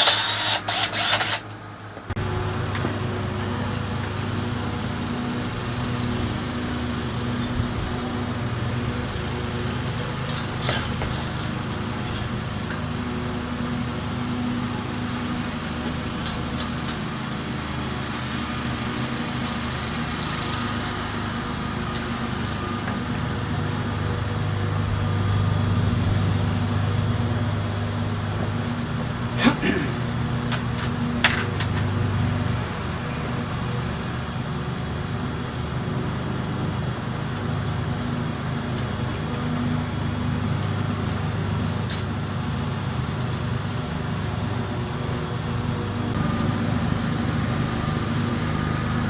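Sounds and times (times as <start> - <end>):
motor humming: 0.0 - 49.0.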